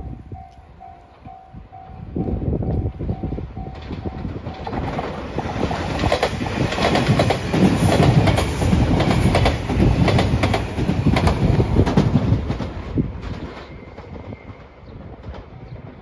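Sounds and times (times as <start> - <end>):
train passing: 0.0 - 16.0
train wheels clacking on rail joints: 2.7 - 16.0.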